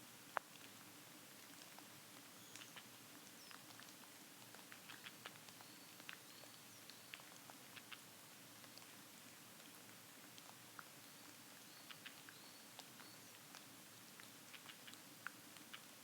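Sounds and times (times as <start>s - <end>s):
faint ticks and patter in leaves: 0.0s - 16.0s.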